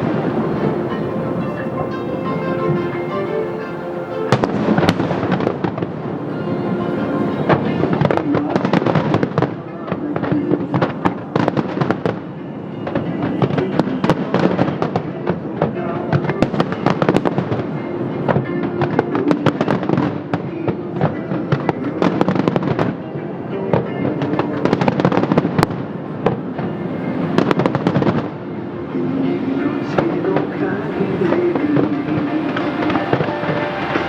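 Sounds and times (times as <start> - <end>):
music: 0.0 - 34.0
fireworks bangs and crackles: 4.3 - 6.3, 6.9 - 28.4, 29.3 - 34.0.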